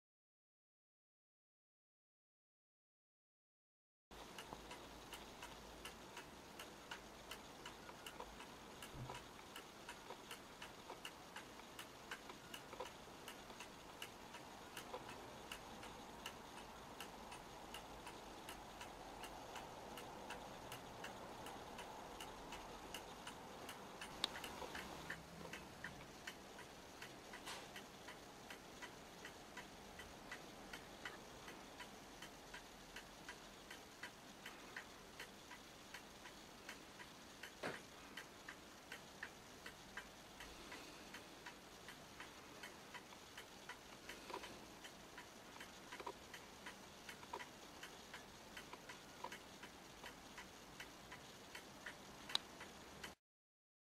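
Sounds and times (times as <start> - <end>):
clock ticking: 4.2 - 53.2.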